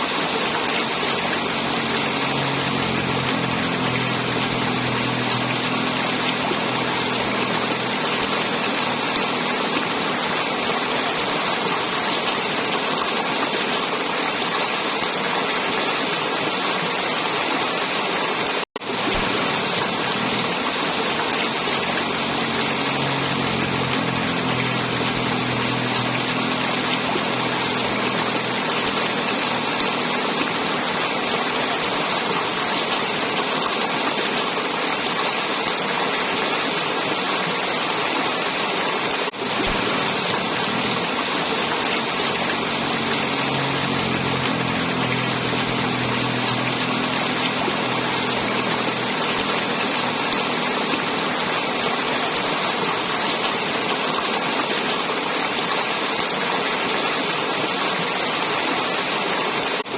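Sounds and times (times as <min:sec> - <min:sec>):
river water flowing and gurgling: 0:00.0 - 0:59.9.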